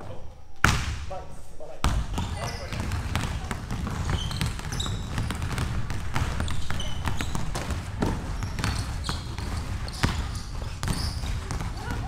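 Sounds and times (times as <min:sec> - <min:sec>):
basketballs bouncing on wooden floor: 0:01.8 - 0:12.0
sneaker squeaks: 0:01.9 - 0:12.0.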